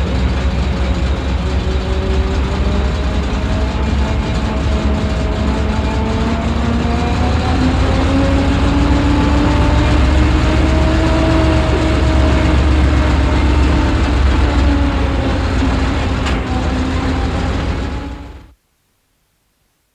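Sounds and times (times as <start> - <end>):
tank engine idling: 0.0 - 18.5.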